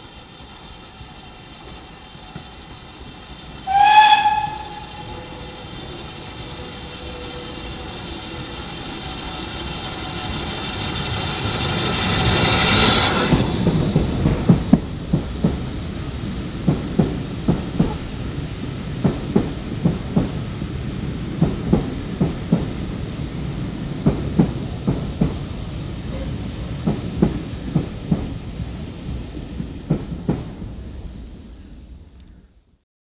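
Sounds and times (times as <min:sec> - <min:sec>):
train rumble: 0:00.0 - 0:32.8
train wheels clickety-clack: 0:01.0 - 0:32.4.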